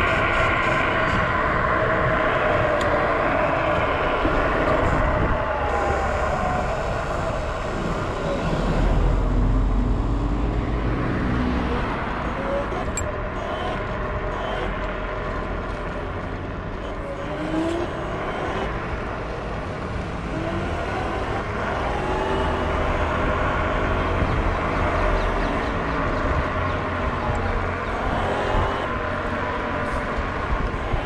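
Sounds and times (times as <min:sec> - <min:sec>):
wind noise on microphone: 0:00.0 - 0:31.0
electric motor whine rising: 0:02.1 - 0:31.0.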